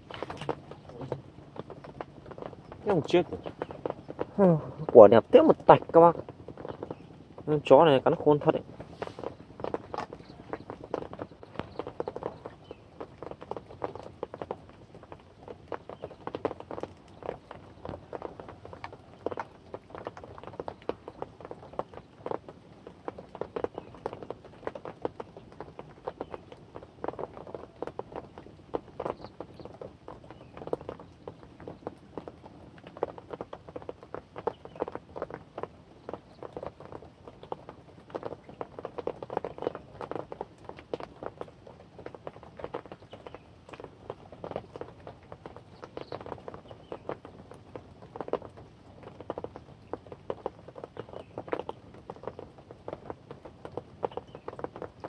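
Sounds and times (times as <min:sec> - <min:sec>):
heavy raindrops tapping: 0:00.0 - 0:55.0
rain hissing: 0:00.0 - 0:55.0.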